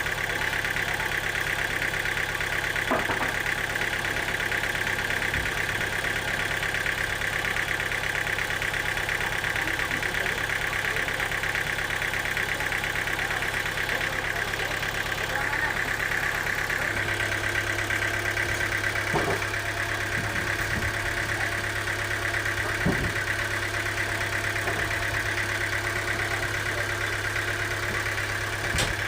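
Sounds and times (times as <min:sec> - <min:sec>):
sawmill machinery whining: 0:00.0 - 0:29.0.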